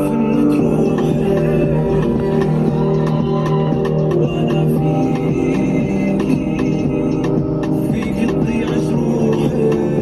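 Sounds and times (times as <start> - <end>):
light regular beat: 0.3 - 10.0.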